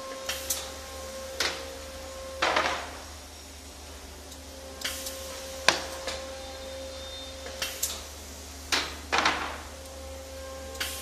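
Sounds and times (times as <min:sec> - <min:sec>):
hissing bursts of air: 0:00.0 - 0:03.6, 0:04.7 - 0:09.9, 0:10.7 - 0:11.0
steady machine hum: 0:00.0 - 0:11.0.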